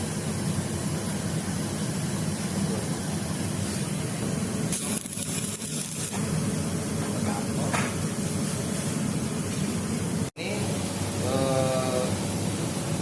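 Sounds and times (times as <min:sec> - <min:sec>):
workshop machine noise with hiss: 0:00.0 - 0:13.0.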